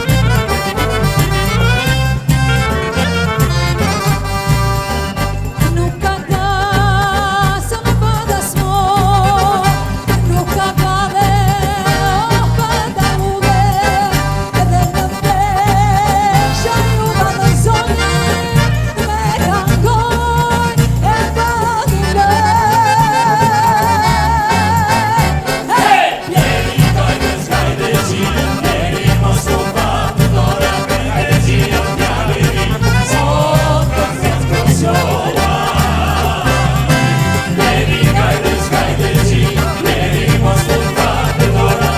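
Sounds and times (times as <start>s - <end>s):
upbeat band with bass beat: 0.0s - 41.9s.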